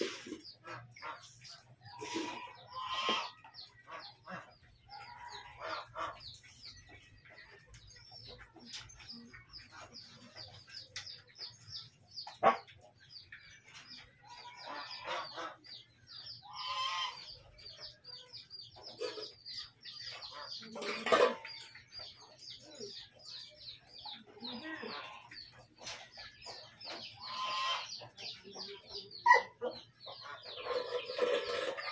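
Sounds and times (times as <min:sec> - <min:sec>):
chickens peeping and clucking: 0:00.0 - 0:31.9.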